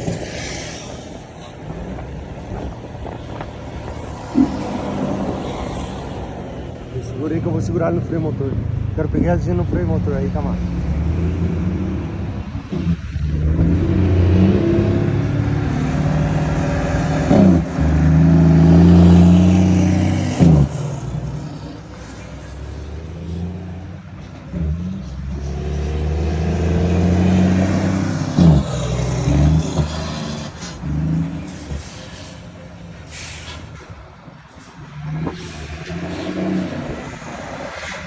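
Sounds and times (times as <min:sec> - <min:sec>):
diesel truck engine brake drone: 0:00.0 - 0:38.0.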